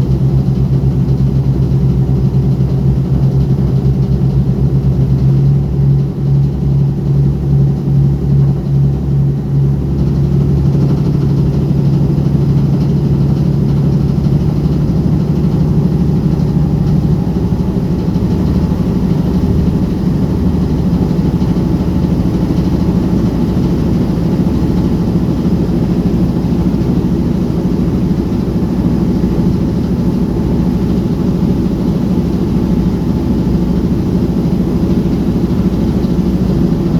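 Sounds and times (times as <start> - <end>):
ferry diesel engine drone: 0.0 - 36.9.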